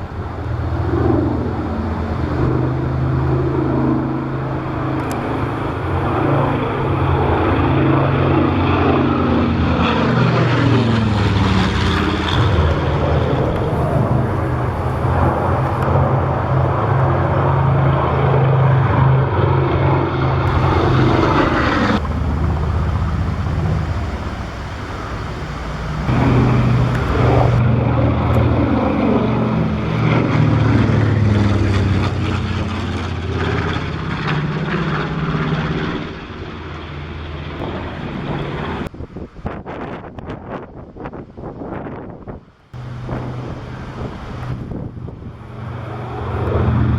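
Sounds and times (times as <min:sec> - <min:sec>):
propeller plane flying past: 0:00.0 - 0:38.9, 0:42.8 - 0:46.9.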